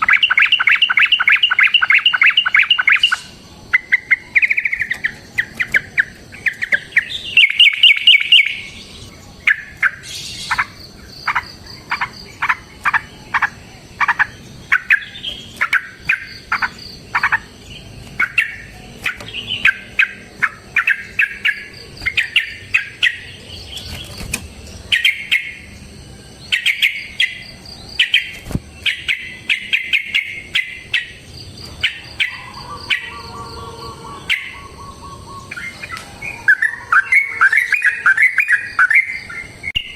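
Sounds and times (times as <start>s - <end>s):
bulbul singing chirping phrases: 0.0s - 39.9s.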